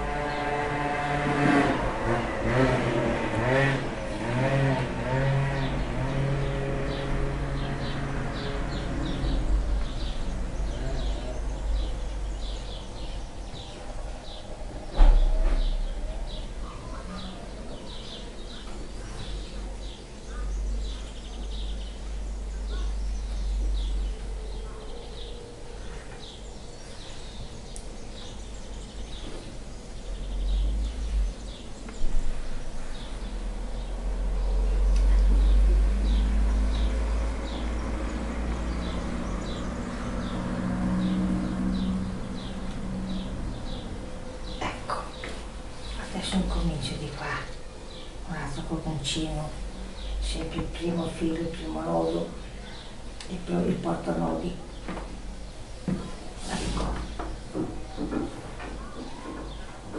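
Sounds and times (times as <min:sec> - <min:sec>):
steady low rumble: 0:04.8 - 0:55.8.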